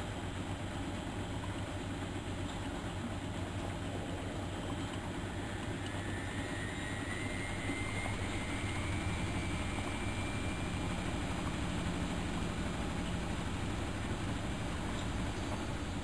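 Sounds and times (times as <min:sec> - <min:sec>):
faint motor whine: 0:00.0 - 0:16.0
washing machine running: 0:00.0 - 0:16.0.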